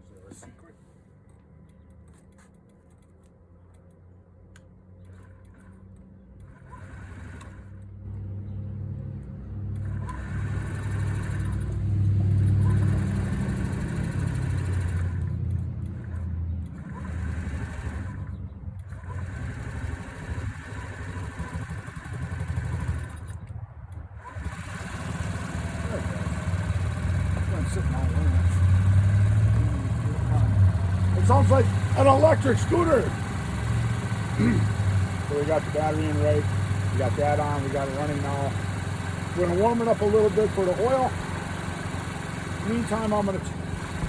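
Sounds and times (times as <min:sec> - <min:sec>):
scooter engine starting and running: 0:01.2 - 0:44.0.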